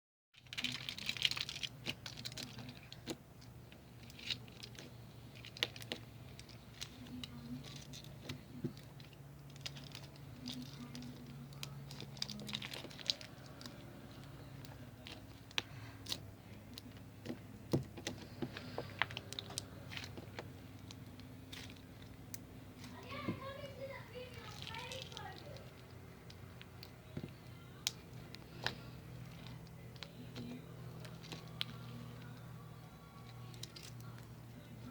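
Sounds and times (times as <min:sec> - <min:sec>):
faint low hum: 0:00.4 - 0:34.9.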